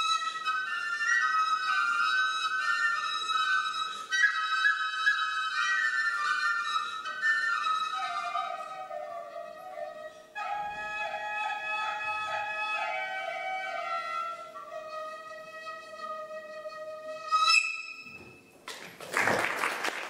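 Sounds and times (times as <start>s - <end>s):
wooden flute melody: 0.0s - 18.5s.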